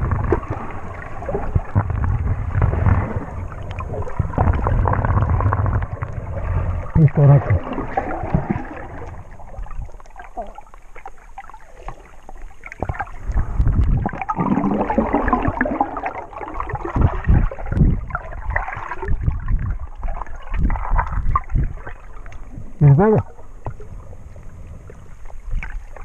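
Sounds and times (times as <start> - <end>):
low underwater thumps: 0.0 - 10.1, 12.7 - 25.7
underwater sloshing and gurgling: 0.0 - 26.0.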